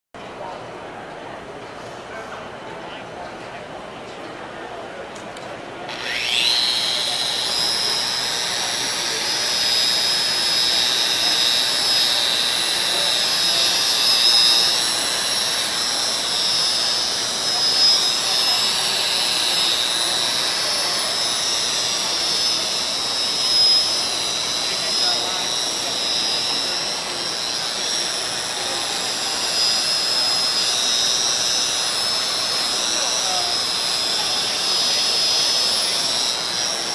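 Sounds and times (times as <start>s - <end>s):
belt file whine: 5.8s - 36.9s.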